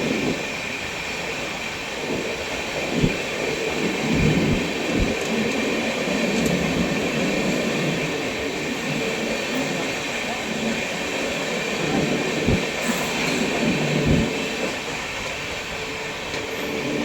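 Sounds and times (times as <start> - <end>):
thin steady whine: 0.0 - 17.0
train wheels rumbling on rails: 0.0 - 17.0.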